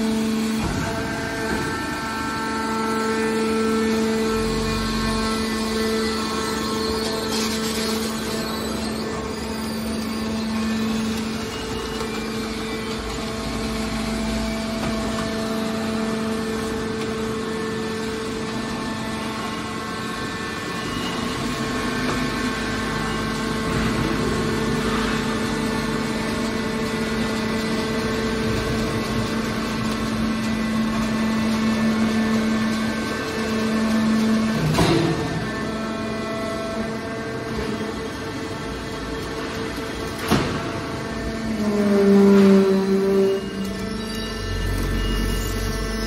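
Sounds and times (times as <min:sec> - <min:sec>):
electric motor and pump humming: 0:00.0 - 0:46.0.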